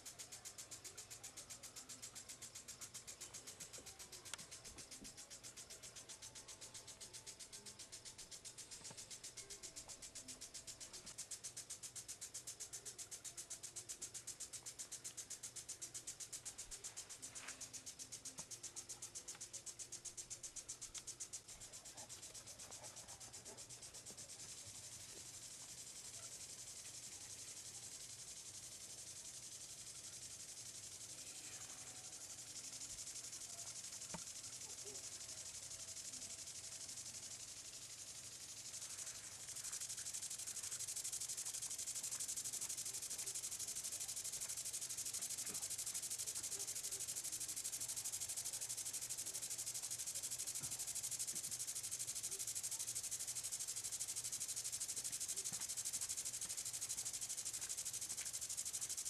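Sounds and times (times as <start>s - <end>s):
night insects chorus: 0.0s - 59.0s.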